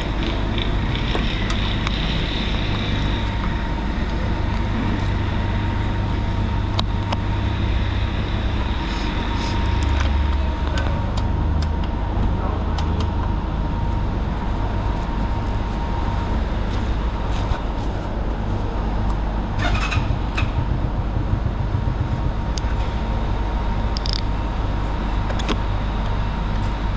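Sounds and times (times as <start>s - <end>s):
motorcycle engine drone: 0.0s - 26.9s
wind and road noise: 0.0s - 26.9s.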